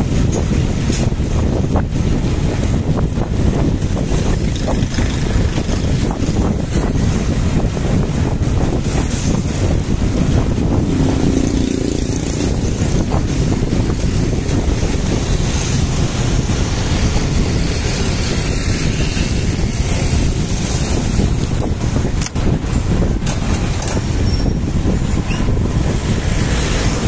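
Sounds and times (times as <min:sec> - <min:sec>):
bike tyre and road noise: 0:00.0 - 0:27.0
wind buffeting microphone: 0:00.0 - 0:27.0.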